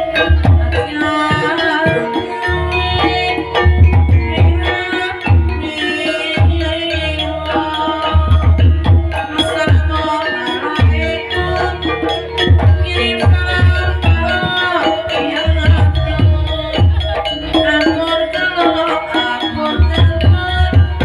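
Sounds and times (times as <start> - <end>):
ringing metallophone notes: 0.0 - 21.0.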